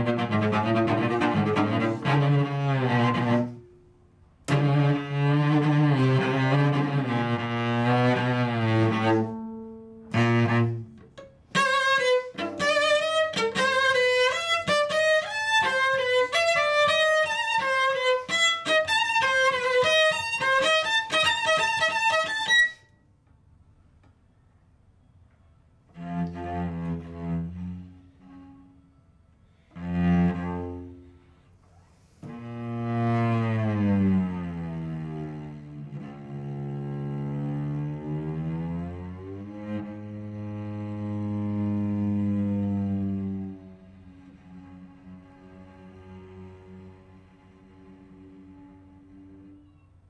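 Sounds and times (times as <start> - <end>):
bowed cello: 0.0 - 22.9, 24.1 - 50.0.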